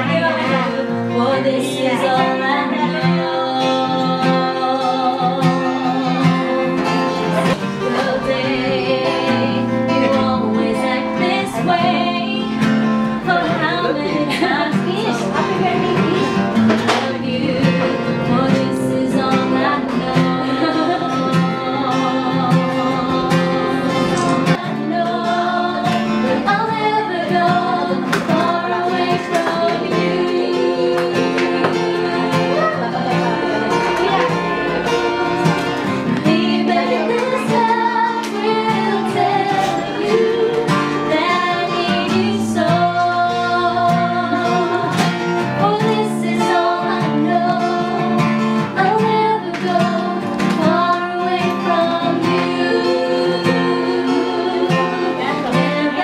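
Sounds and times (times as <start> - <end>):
acoustic guitar: 0.0 - 56.0
person singing: 0.0 - 56.0.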